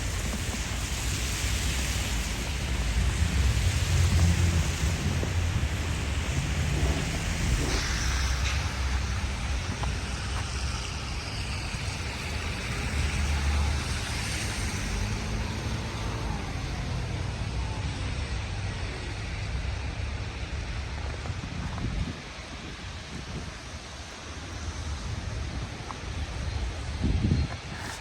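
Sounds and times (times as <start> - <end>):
wind buffeting microphone: 0.0 - 17.4, 19.7 - 28.0
street traffic hiss: 0.0 - 28.0.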